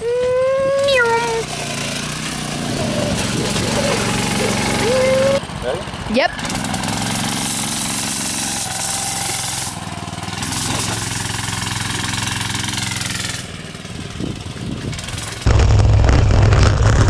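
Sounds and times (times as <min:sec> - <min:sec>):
small go-kart engine running: 0:00.0 - 0:17.0.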